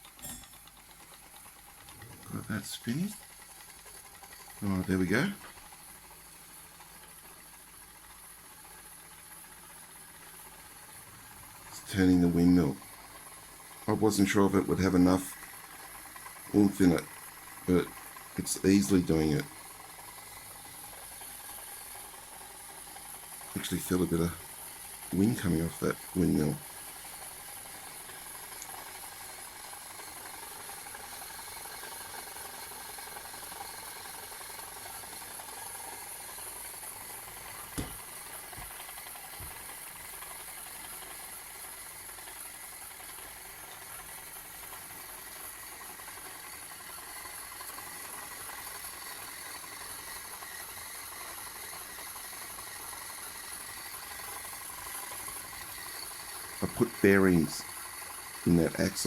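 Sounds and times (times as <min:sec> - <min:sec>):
model engine light mechanical rattle: 0:00.0 - 0:59.0.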